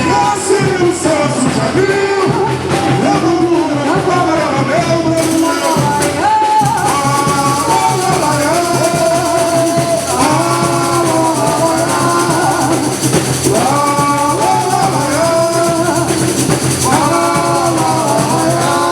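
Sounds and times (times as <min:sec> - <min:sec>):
drums: 0:00.0 - 0:18.9
samba percussion: 0:00.0 - 0:18.9
shakers: 0:00.0 - 0:18.9
voices singing samba melody: 0:00.0 - 0:18.9.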